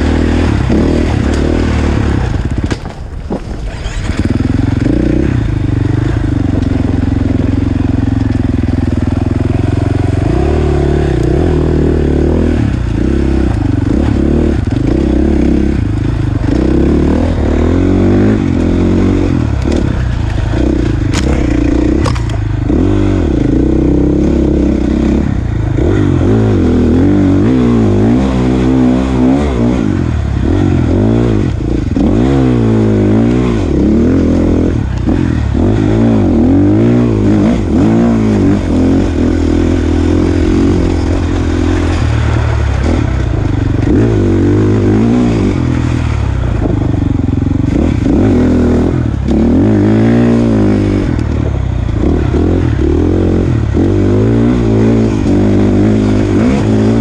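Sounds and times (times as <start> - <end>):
dirt bike engine revving: 0.0 - 2.8, 3.5 - 57.0.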